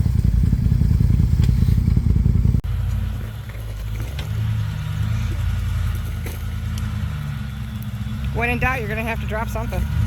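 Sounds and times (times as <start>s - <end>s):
smoother lower engine note: 0.0s - 10.0s
truck engine pulling hard: 0.0s - 10.0s.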